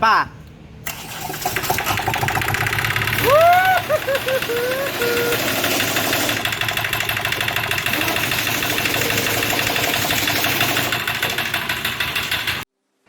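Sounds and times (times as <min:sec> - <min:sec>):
diesel engine clattering: 0:00.9 - 0:12.6.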